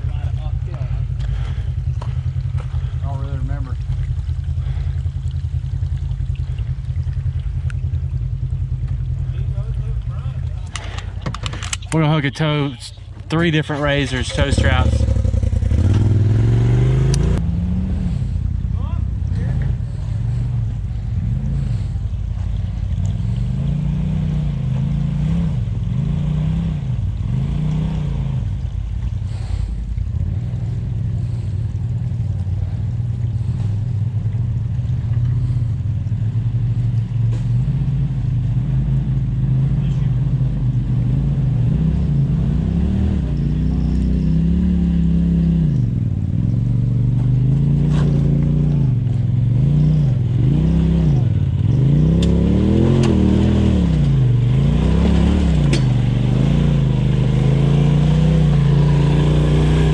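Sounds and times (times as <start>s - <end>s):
off-road vehicle engines revving: 0.0s - 59.9s.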